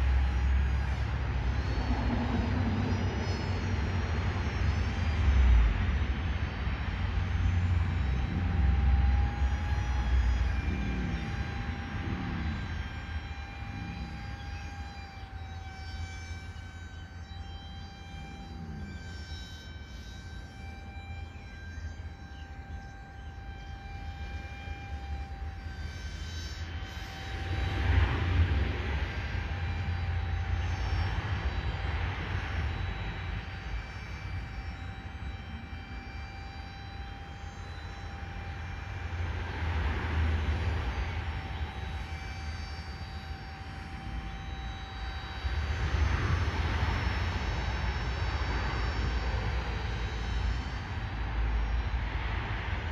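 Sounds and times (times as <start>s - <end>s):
motor and propeller whine: 0.0s - 52.9s.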